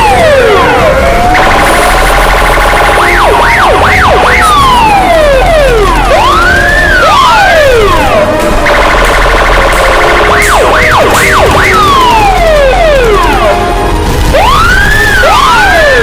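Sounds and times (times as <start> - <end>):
pulsing alarm tone: 0.0 - 16.0
siren wails: 0.0 - 16.0.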